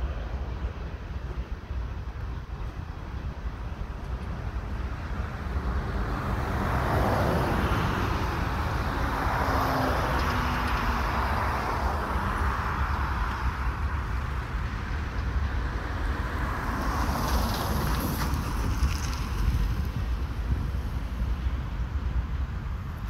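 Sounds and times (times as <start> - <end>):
constant low rumble: 0.0 - 6.4, 7.9 - 23.0
vehicles driving past: 0.0 - 23.0.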